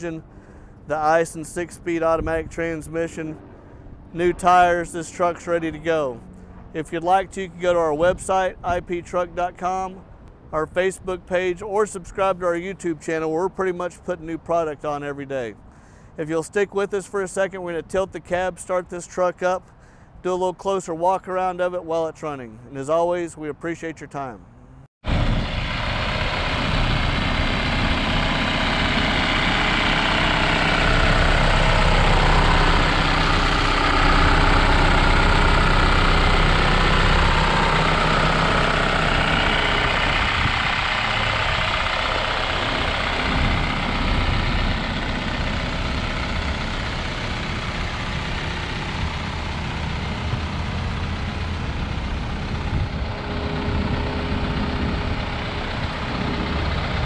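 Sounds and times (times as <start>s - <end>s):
diesel engine idling: 0.0s - 20.8s, 24.4s - 57.0s.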